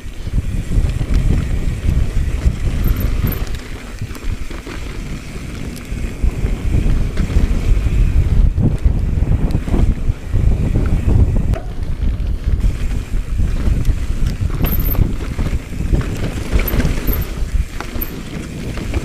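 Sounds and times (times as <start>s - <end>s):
bike tyres rumbling on dirt: 0.0s - 19.0s
wind buffeting microphone: 0.0s - 19.0s
bike knocks and rattles: 0.4s - 19.0s.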